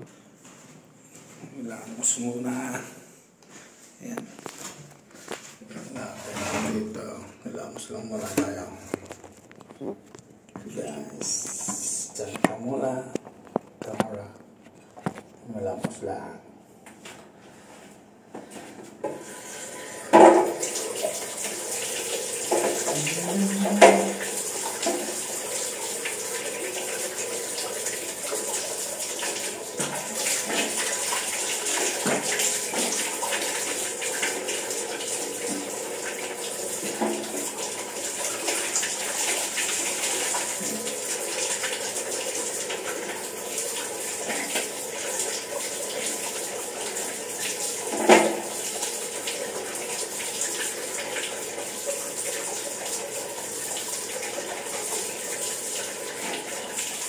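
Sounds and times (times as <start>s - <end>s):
tap water running and splashing: 4.4s - 14.2s, 15.0s - 15.2s, 18.3s - 57.0s.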